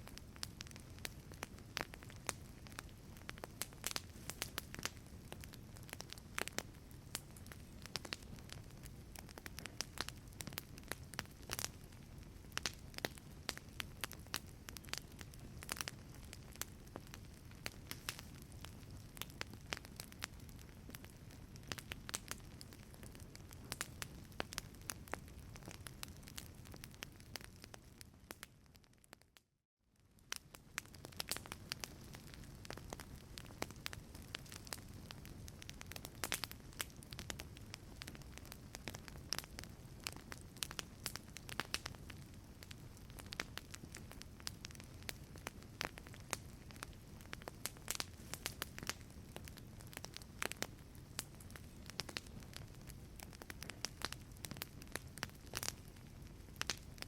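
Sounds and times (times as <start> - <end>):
wood fire crackling: 0.0 - 29.4, 30.0 - 57.0.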